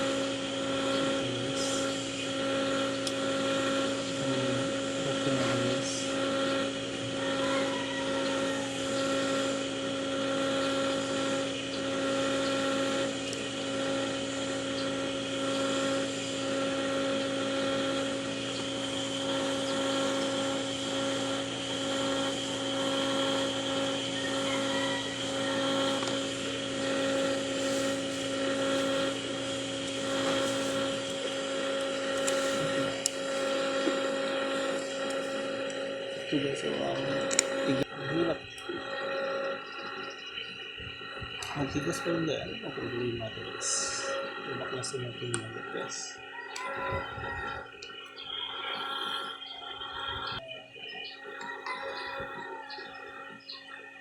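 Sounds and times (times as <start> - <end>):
motor humming: 0.0 - 54.0.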